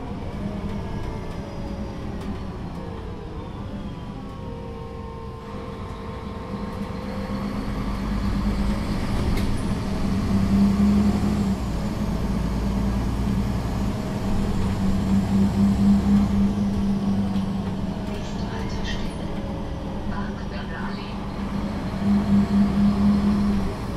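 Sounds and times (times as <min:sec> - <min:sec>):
bus engine rumbling: 0:00.0 - 0:23.9.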